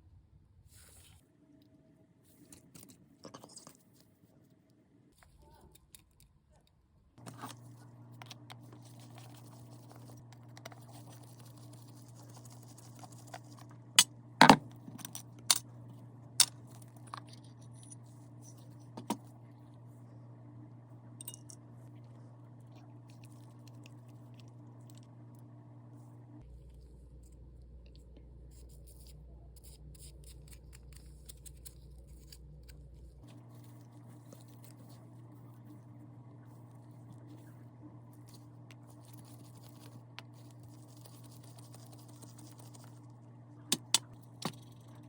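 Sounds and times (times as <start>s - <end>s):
steady low hum: 6.8s - 45.0s.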